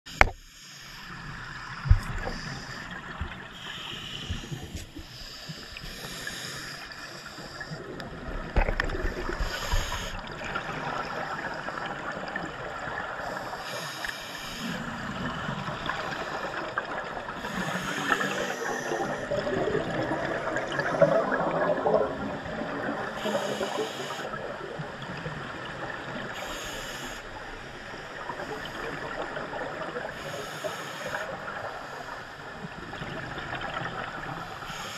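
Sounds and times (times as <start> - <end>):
muffled underwater hiss: 0.1 - 34.9.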